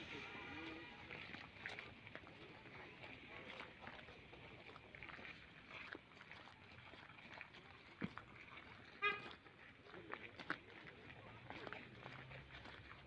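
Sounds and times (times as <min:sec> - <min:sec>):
faint street noise: 0:00.0 - 0:13.0
footsteps on slushy snow: 0:00.0 - 0:13.0.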